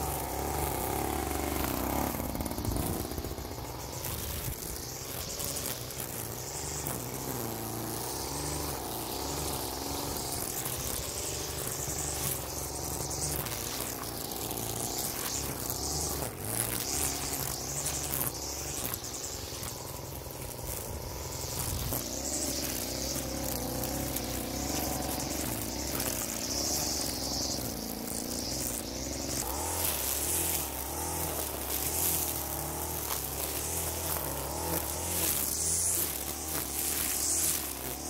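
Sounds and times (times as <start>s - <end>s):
string trimmer engine running: 0.0s - 38.0s
trimmer line cutting grass: 0.0s - 38.0s.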